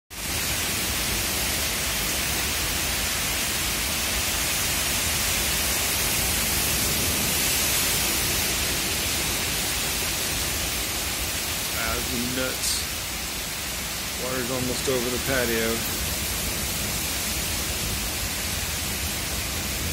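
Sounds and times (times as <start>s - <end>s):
heavy rain falling: 0.1s - 19.9s.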